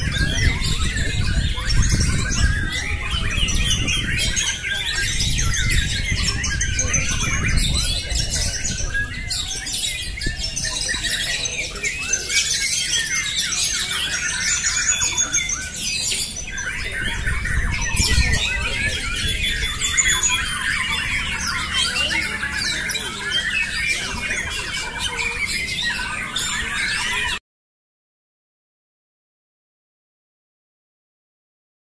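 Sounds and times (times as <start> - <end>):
birds singing in chorus: 0.0 - 27.4.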